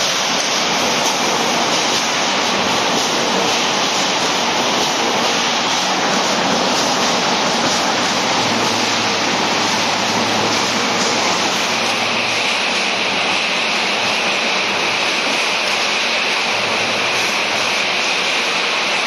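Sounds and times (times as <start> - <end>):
factory machinery running: 0.0 - 19.0.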